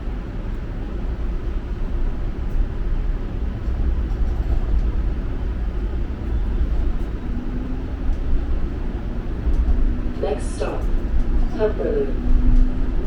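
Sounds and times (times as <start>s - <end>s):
streetcar running rumble: 0.0s - 13.0s.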